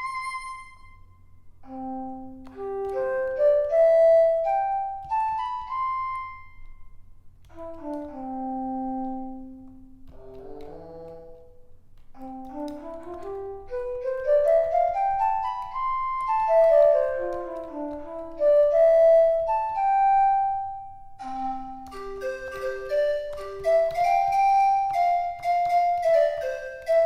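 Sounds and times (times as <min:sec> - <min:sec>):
electronic keyboard melody: 0:00.0 - 0:27.0.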